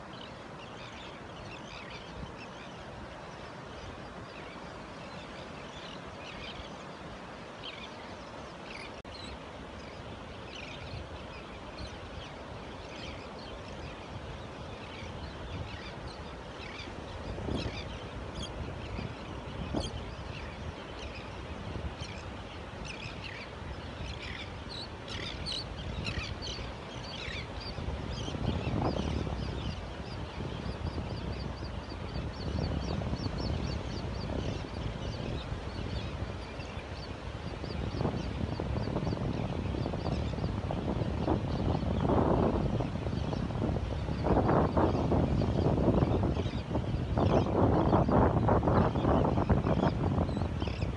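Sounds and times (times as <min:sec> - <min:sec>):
ocean surf washing: 0:00.0 - 0:50.9
terns and gulls calling: 0:00.0 - 0:50.9.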